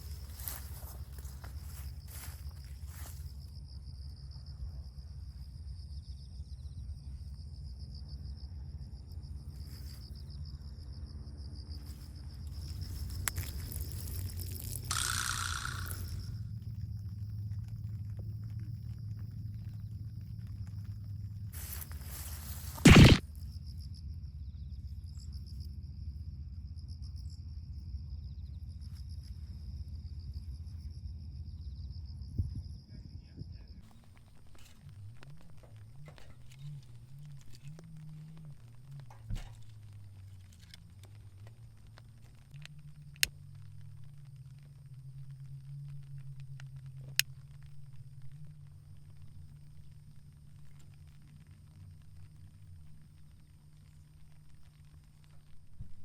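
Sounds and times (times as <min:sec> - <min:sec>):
crickets chirping: 0:00.0 - 0:56.0
low steady rumble: 0:00.0 - 0:56.0.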